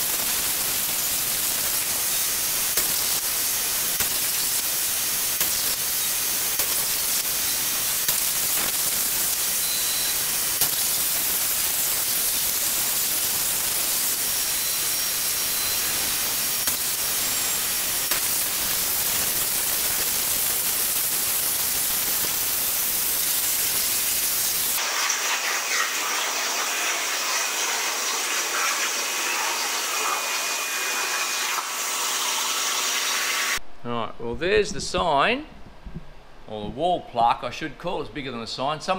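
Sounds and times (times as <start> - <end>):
plasma cutter hissing: 0.0 - 33.6.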